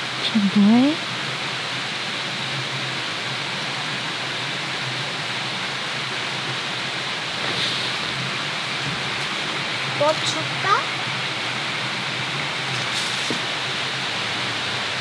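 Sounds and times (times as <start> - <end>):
stream flowing over rocks: 1.0 - 15.0.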